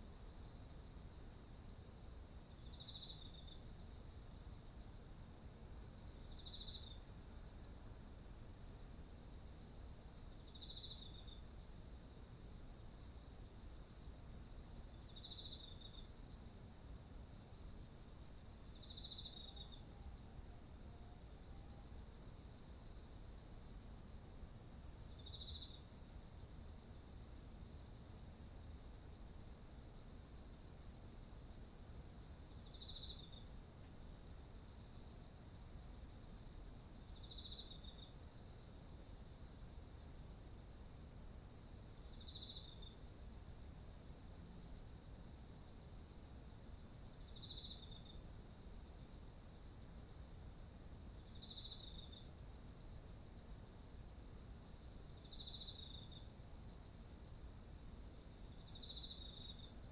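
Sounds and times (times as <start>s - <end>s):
insect high continuous trill: 0.0s - 59.9s
insect low chirp: 0.0s - 59.9s.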